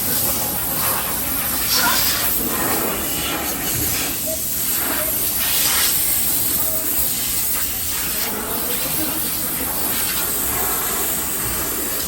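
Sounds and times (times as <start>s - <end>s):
spray jets hissing: 0.0s - 12.0s.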